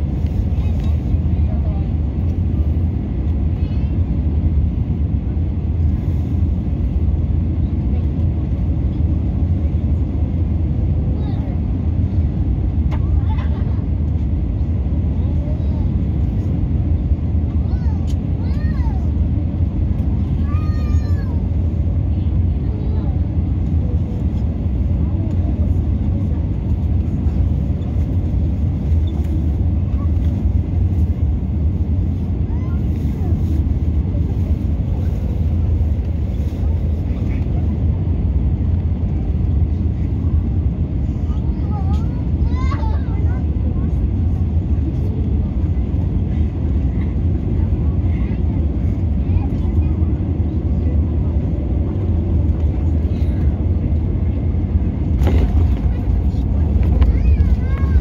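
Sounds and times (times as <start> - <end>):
airflow noise: 0.0 - 58.0
airplane cabin engine rumble: 0.0 - 58.0.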